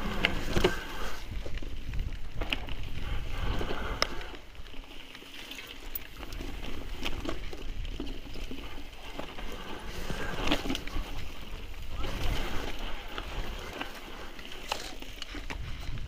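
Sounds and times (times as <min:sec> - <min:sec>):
wind rumbling on microphone: 0:00.0 - 0:04.9, 0:05.8 - 0:16.0
bike rattling clicks and knocks: 0:00.0 - 0:16.0
bike tyre noise: 0:00.0 - 0:16.0.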